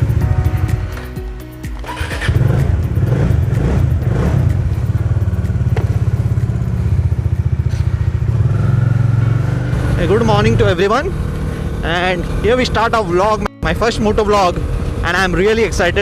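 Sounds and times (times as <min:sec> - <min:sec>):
background music: 0:00.0 - 0:16.0
motorcycle engine running: 0:00.0 - 0:16.0.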